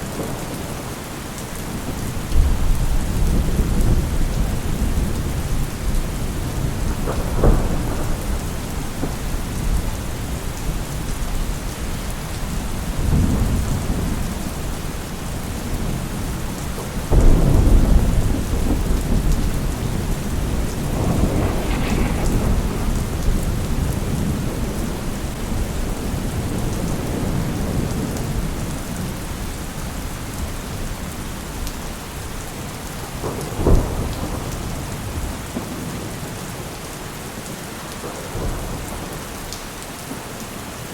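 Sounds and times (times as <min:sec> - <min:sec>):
steady rain: 0:00.0 - 0:40.9
thunder cracks and rumbles: 0:01.7 - 0:32.3, 0:33.0 - 0:36.7.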